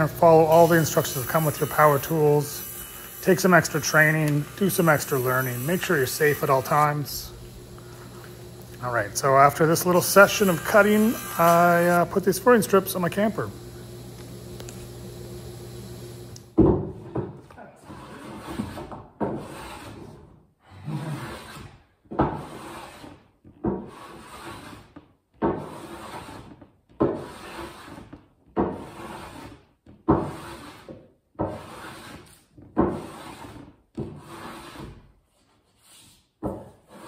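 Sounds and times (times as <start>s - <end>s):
hand plane shaving wood: 0.2s - 13.0s, 17.8s - 20.3s, 21.2s - 37.0s.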